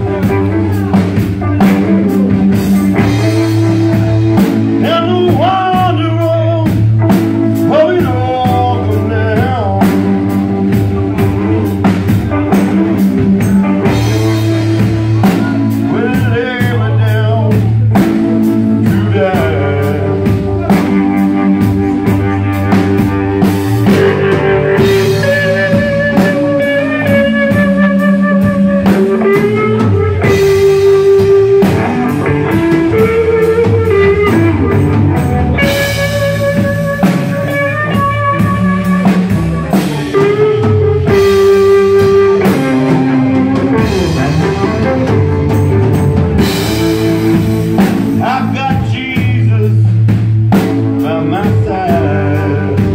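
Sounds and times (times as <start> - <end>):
blues-rock band playing: 0.0 - 52.9
electric guitar lead: 0.0 - 52.9.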